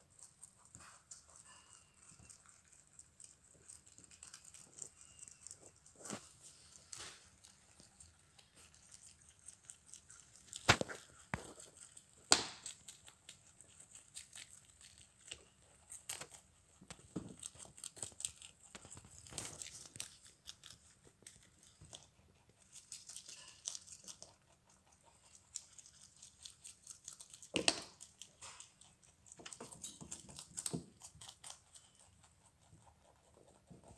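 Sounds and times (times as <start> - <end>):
rabbits chewing leaves: 0.0 - 33.9.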